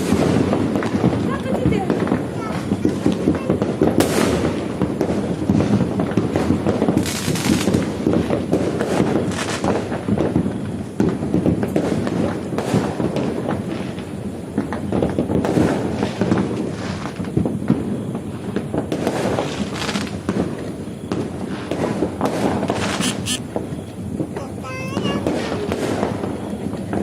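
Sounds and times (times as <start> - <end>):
fireworks crackling: 0.0 - 27.0
loud firework bangs: 0.0 - 27.0.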